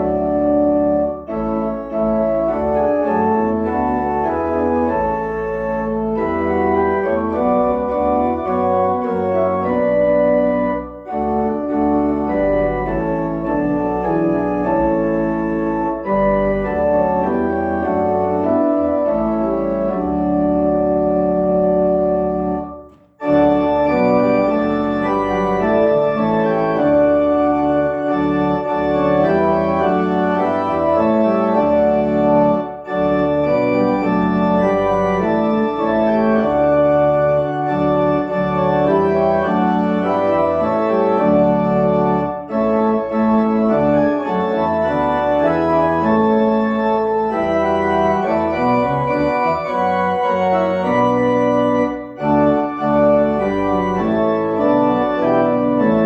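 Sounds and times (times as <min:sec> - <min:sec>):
organ playing held chords: 0:00.0 - 0:56.0.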